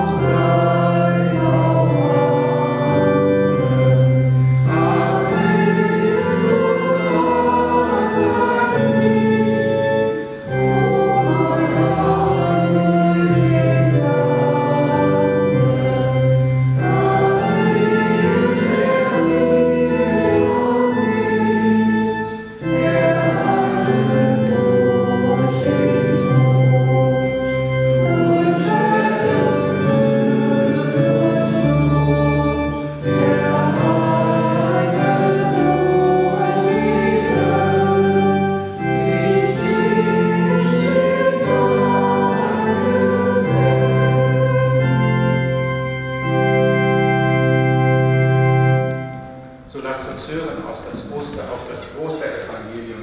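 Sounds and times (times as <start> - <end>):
church organ: 0.0 - 53.0
congregation singing a hymn: 0.0 - 53.0.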